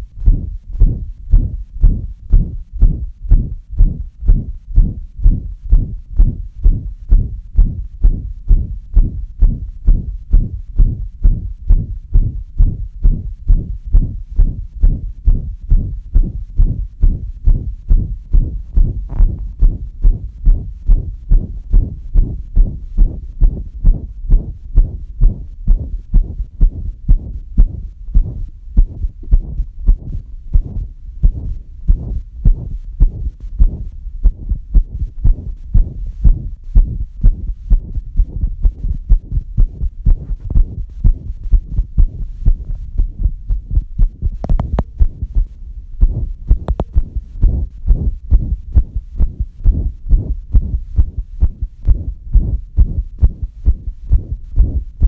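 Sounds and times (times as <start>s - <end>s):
heartbeat thumps: 0.0s - 55.0s.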